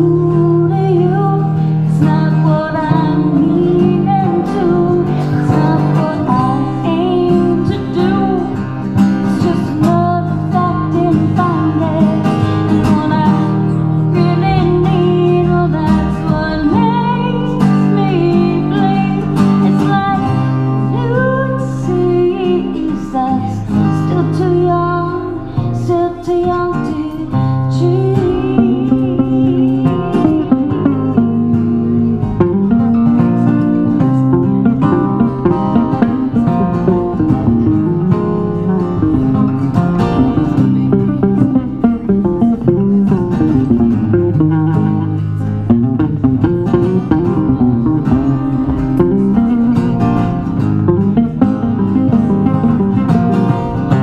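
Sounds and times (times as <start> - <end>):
acoustic guitars strumming: 0.0 - 54.0
electric guitar: 0.0 - 54.0.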